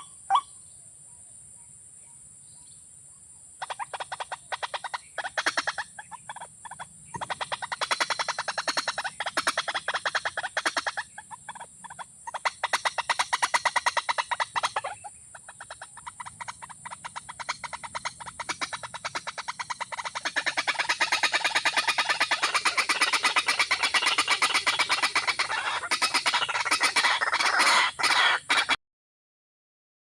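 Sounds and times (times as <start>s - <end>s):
bird clicking calls: 3.6s - 28.8s.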